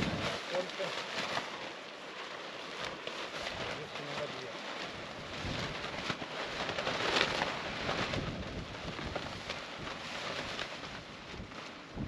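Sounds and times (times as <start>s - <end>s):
dense crackling and rustling: 0.0s - 12.0s.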